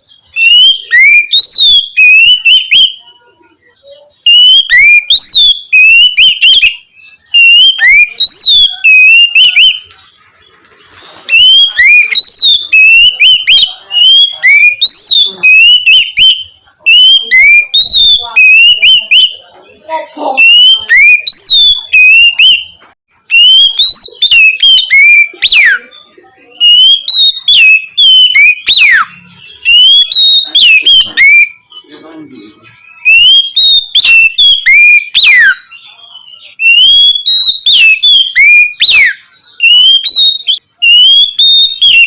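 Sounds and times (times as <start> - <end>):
songbird whistling song: 0.0 - 42.0.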